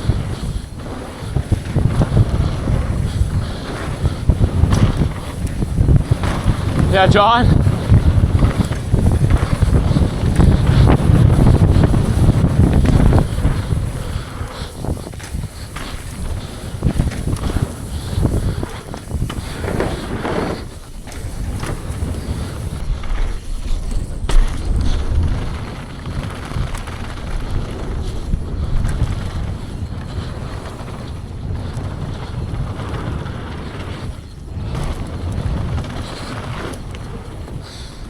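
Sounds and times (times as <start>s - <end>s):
mountain bike rattling over dirt: 0.0s - 38.0s
wind buffeting microphone: 0.0s - 38.0s.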